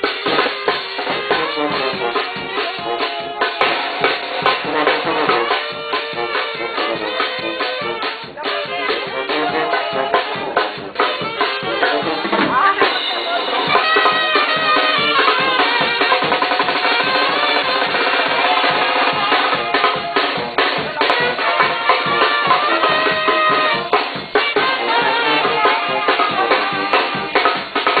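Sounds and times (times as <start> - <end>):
saxophone melody: 0.0 - 28.0.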